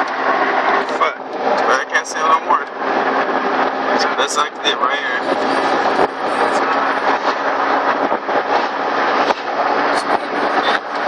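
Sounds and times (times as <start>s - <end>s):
car engine and exhaust running: 0.0s - 11.0s.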